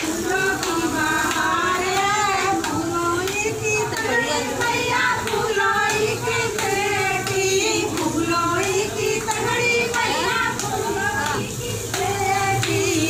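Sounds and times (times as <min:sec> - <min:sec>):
women singing unaccompanied: 0:00.0 - 0:13.0.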